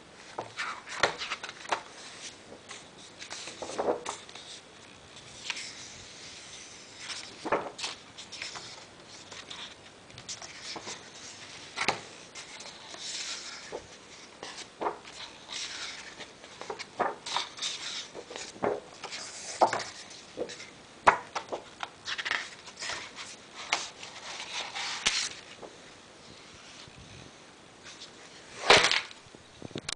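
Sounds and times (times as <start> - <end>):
book pages turning: 0.3 - 26.9.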